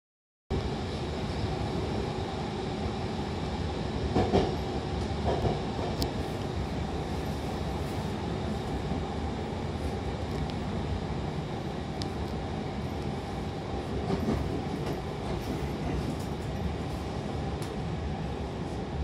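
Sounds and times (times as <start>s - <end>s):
train wheels rumbling: 0.7s - 19.0s.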